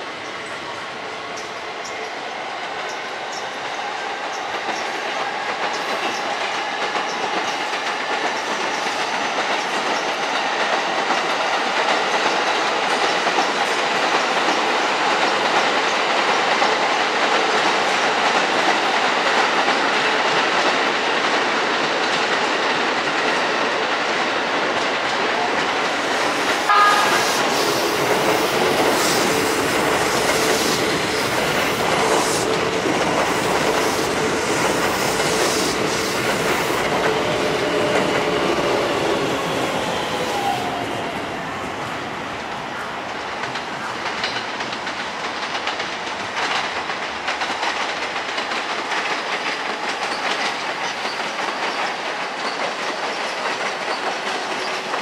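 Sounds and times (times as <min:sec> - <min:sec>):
electric train rumbling on tracks: 0:00.0 - 0:55.0.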